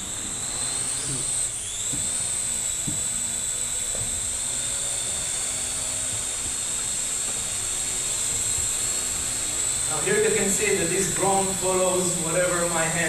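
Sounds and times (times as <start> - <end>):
drone whining: 0.0 - 13.0.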